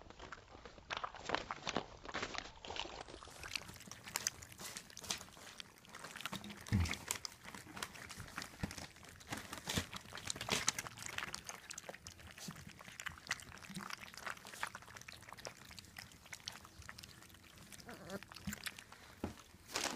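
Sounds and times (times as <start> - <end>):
puppies lapping from metal pan: 0.4 - 19.9.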